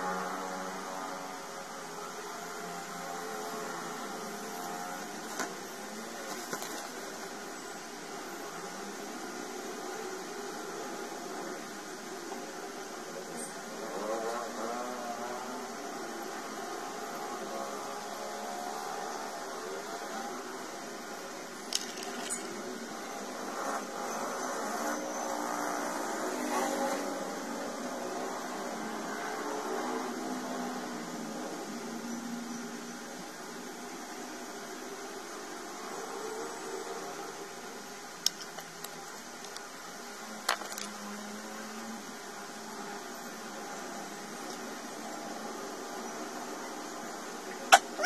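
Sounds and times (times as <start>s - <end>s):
room noise hiss: 0.0s - 48.0s.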